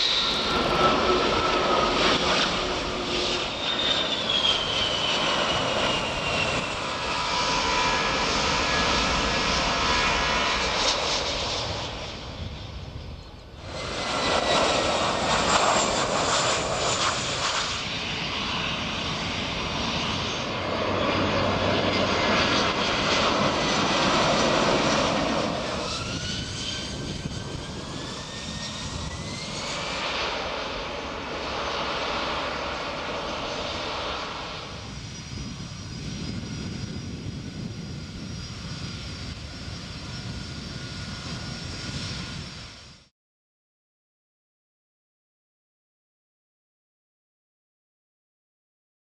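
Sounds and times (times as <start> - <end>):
rising engine whine: 0.0 - 43.0
jet engines running: 0.0 - 43.1.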